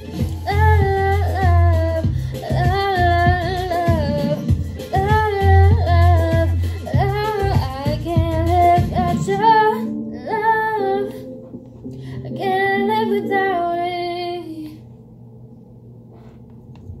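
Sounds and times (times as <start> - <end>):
backing track music: 0.0 - 13.7
faint hum: 0.0 - 17.0.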